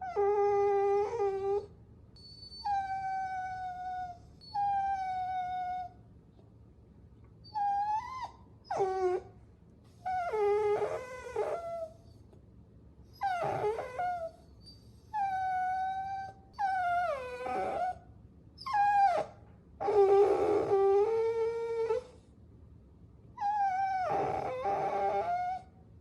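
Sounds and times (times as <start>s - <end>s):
puppy whining: 0.0s - 6.0s, 7.4s - 12.4s, 13.1s - 22.3s, 23.4s - 25.8s.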